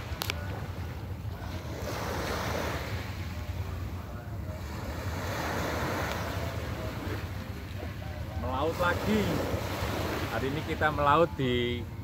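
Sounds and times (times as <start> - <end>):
small waves washing onto beach: 0.0 - 11.9.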